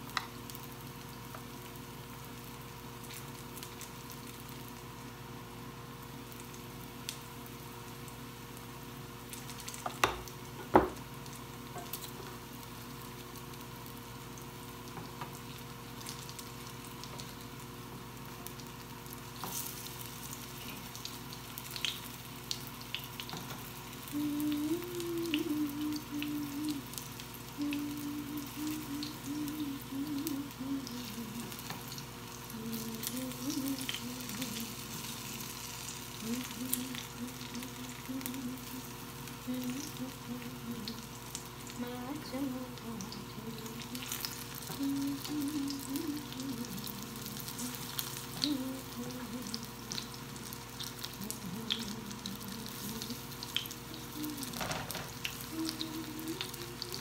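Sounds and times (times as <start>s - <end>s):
fritters sizzling in oil: 0.0s - 57.0s.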